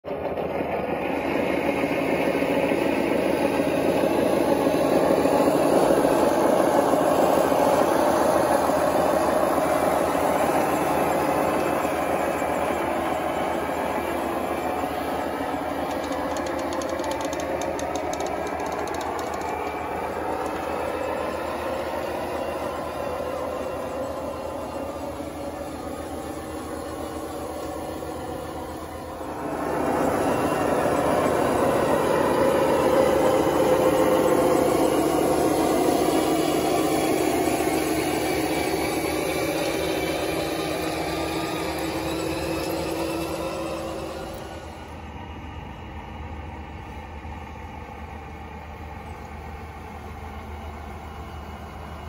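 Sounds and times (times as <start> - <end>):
model vehicle motor rumbling: 1.1 - 45.1.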